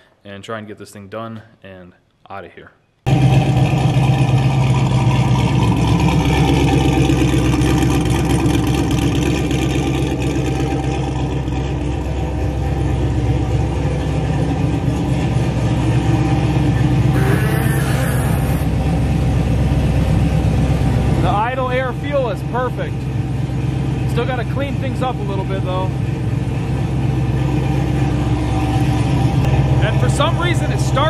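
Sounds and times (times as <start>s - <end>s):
car engine idling: 3.1s - 31.0s.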